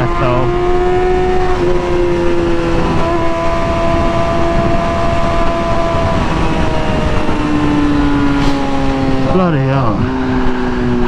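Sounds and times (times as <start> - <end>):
motorcycle engine cruising: 0.0 - 11.0
wind rush: 0.0 - 11.0.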